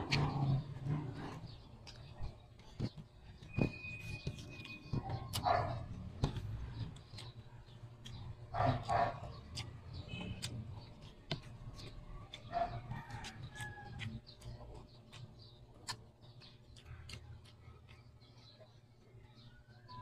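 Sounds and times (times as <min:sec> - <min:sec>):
eating clicks and smacks: 0:00.0 - 0:18.8.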